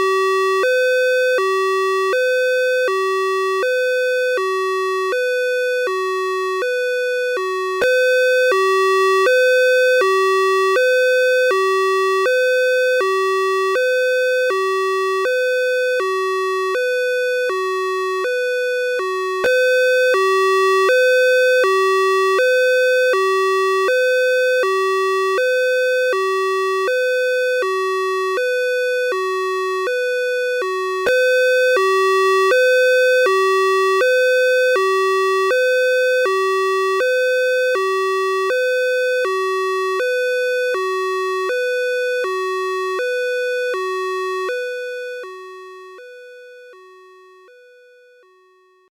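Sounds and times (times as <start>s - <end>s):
two-tone ambulance siren: 0.0s - 48.9s.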